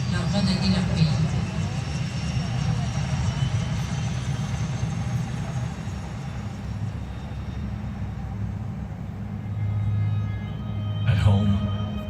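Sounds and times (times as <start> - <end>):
low rumbling drone over loudspeakers: 0.0 - 12.0.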